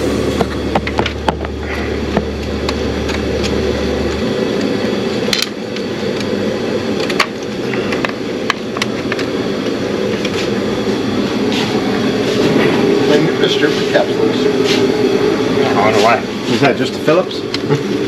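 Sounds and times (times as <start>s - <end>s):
low hum: 0.0s - 16.5s
loud rumbling noise: 0.0s - 18.0s.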